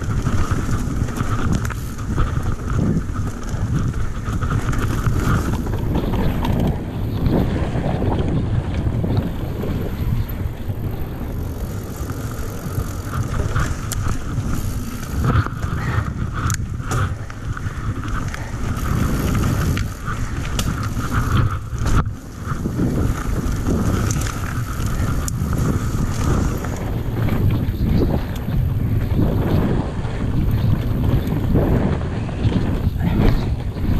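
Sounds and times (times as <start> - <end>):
bike clicking and rattling: 0.0 - 33.9
tyres rolling on dirt: 0.0 - 33.9
wind rushing over microphone: 0.0 - 33.9.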